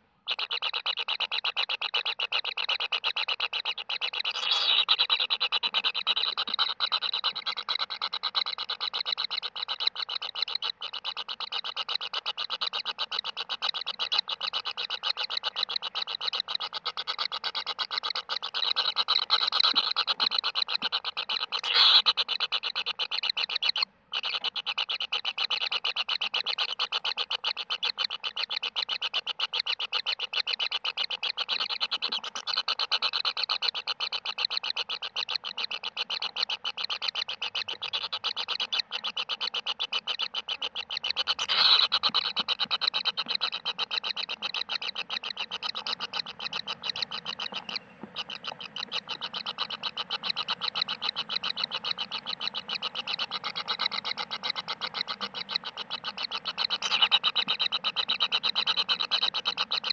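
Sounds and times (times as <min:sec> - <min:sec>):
rapid pulsing animal trill: 0:00.3 - 0:59.9.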